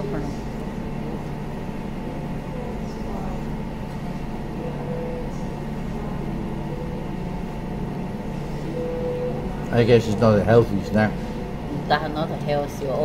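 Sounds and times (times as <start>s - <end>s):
restaurant room hum: 0.0s - 13.0s.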